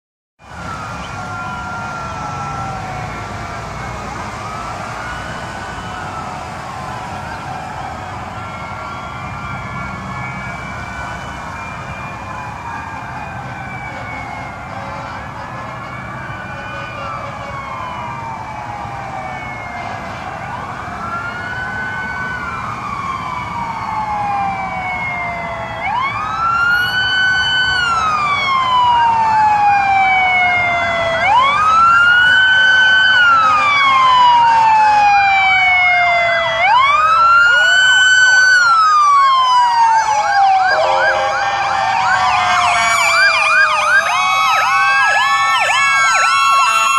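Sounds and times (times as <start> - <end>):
police sirens wailing: 0.4 - 46.9.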